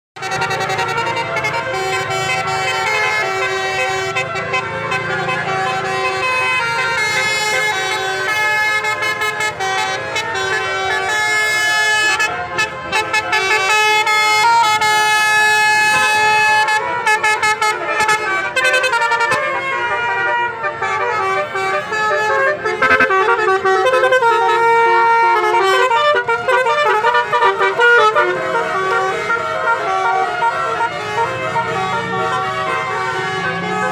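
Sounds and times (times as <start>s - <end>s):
multi-tone bus horn playing tune: 0.2s - 33.9s.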